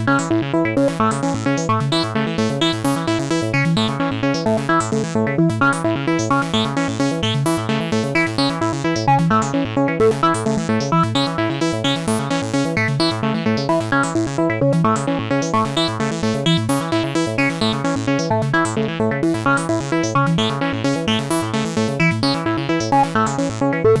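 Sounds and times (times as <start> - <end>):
pulsing synth bass: 0.0 - 24.0.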